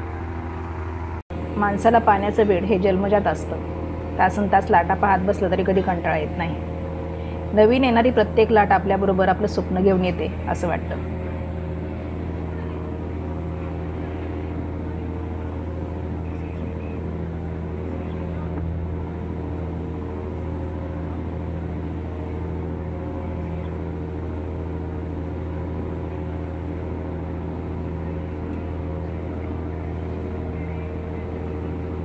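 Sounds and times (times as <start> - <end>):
ferry engine droning: 0.0 - 32.0.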